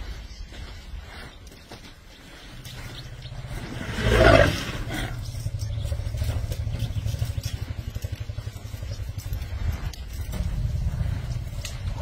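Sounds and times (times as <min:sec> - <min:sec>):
low pulsing rumble: 0:02.3 - 0:12.0.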